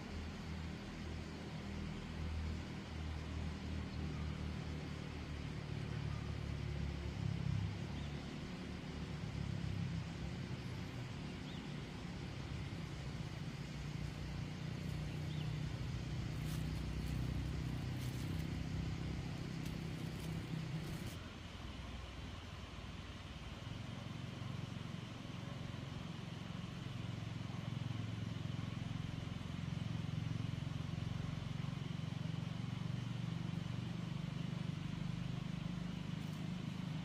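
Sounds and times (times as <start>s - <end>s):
motor engine hum: 2.6s - 37.0s.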